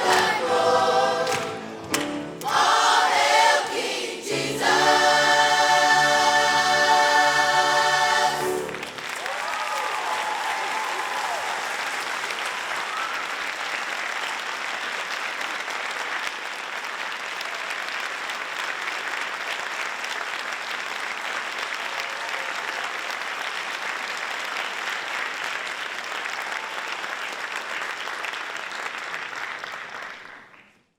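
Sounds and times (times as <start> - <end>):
audience applauding: 0.0 - 4.1, 4.7 - 30.8.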